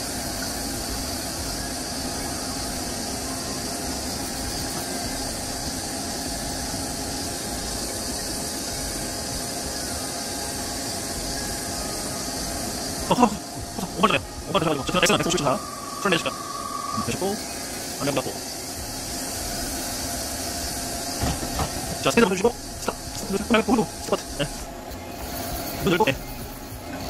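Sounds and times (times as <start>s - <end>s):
lathe humming with hiss: 0.0s - 27.0s.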